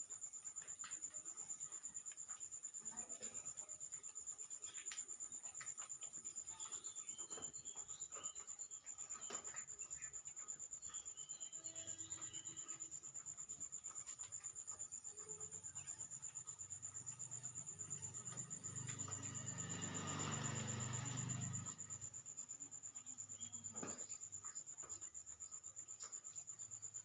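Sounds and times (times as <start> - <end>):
cricket chirring: 0.0 - 27.0.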